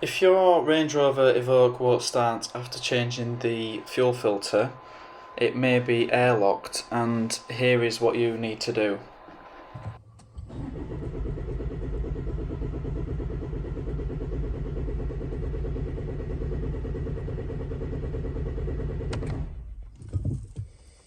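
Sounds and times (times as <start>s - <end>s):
engine cranking on starter motor: 0.0s - 20.9s.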